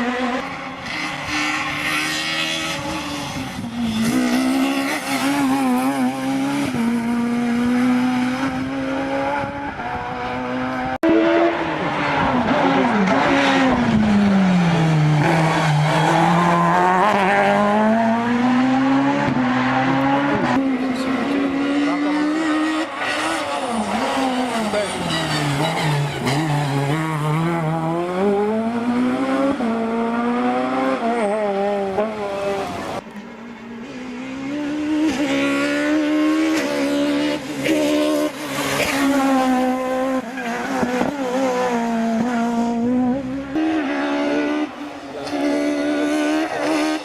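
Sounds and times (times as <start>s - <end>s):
rally car engine driven hard: 0.0s - 47.0s.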